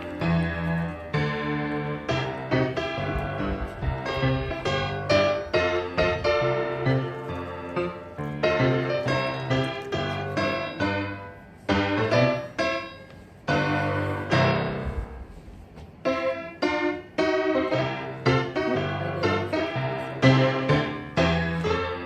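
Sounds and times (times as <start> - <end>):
lively piano music: 0.0 - 22.0.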